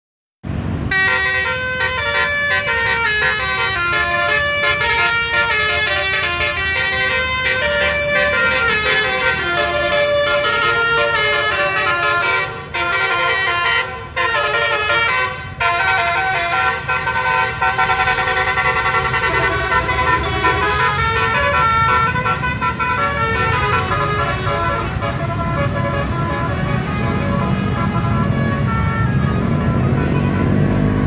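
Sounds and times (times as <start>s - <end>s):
bus engine rumbling: 0.4s - 31.0s
multi-tone bus horn melody: 0.9s - 31.0s.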